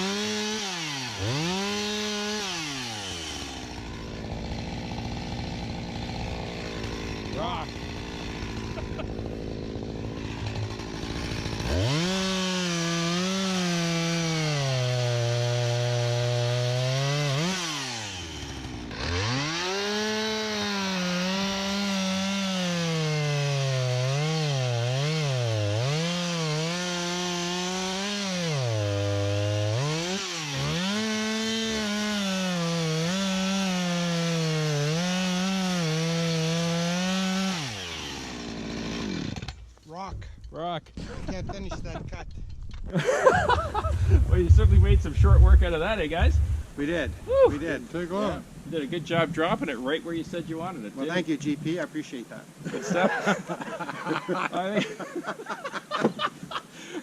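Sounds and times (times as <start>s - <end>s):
chainsaw cutting through wood: 0.0s - 39.9s, 42.9s - 57.0s.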